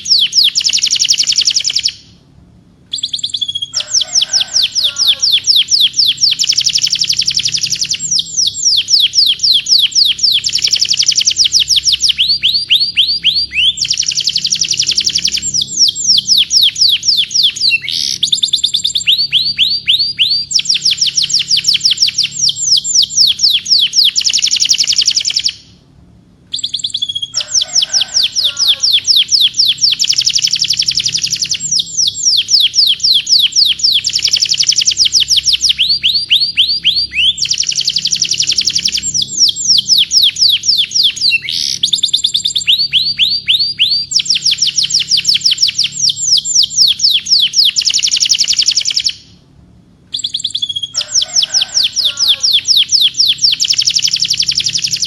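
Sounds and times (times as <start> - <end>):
canary singing trills: 0.0 - 25.8, 26.5 - 49.4, 50.1 - 55.0.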